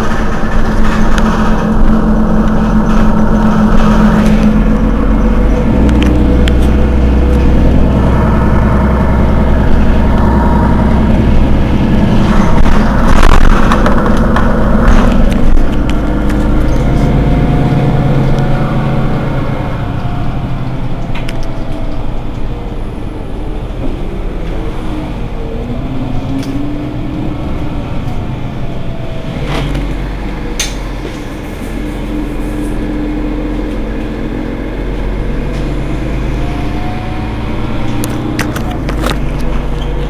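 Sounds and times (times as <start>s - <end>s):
bus engine idling: 0.0s - 40.0s
whine sliding in pitch: 0.0s - 40.0s.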